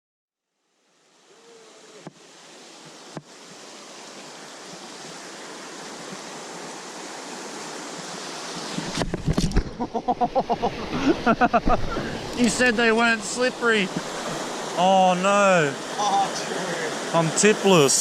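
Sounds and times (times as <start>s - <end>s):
creek water rushing: 0.6s - 18.0s.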